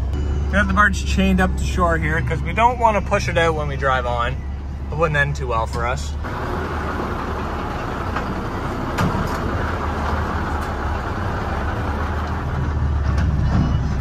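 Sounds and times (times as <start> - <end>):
diesel truck engine under load: 0.0 - 14.0.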